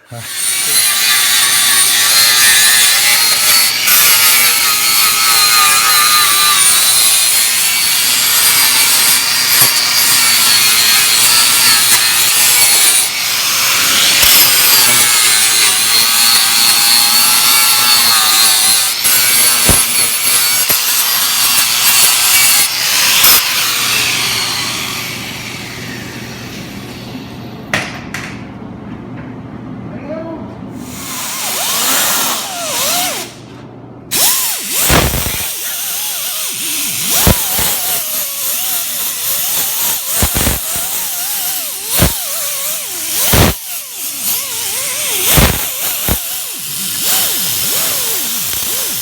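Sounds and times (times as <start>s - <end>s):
power grinder grinding metal: 0.0s - 27.1s, 30.8s - 33.4s, 34.1s - 49.0s.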